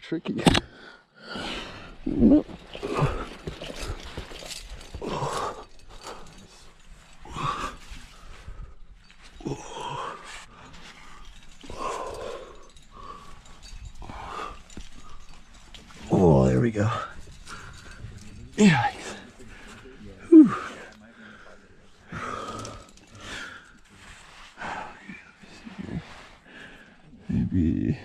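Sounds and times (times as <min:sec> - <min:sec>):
person breathing heavily and grunting: 0:00.7 - 0:28.0.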